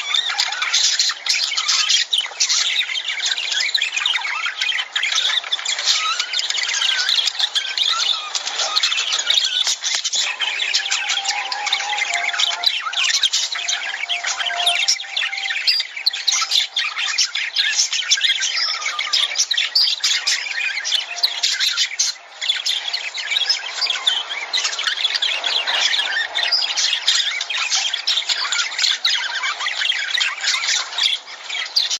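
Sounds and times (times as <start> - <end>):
birds chattering and squawking: 0.0 - 31.9.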